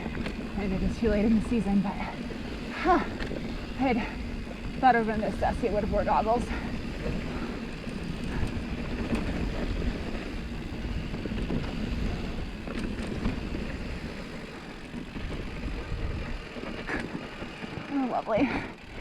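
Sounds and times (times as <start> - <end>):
wind on microphone: 0.0 - 17.1
bike clicks and rattles: 0.0 - 19.0
bike tyres rumbling on dirt: 0.0 - 19.0.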